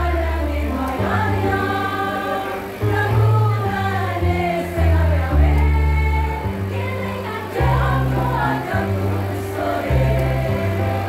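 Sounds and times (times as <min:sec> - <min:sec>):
women's choir singing in harmony: 0:00.0 - 0:11.0.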